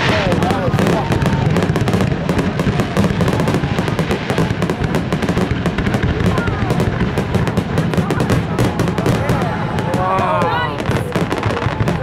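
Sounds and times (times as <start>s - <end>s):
fireworks bursting and crackling: 0.0s - 12.0s.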